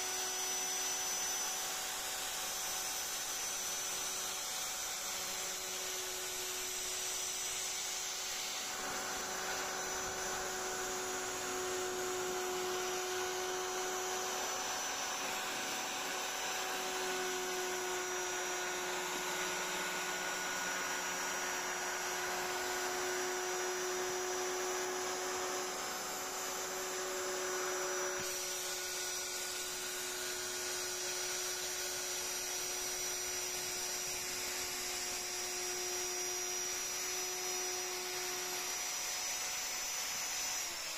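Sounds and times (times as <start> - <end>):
router bit cutting wood hiss: 0.0 - 40.9
router high whine: 0.0 - 40.9.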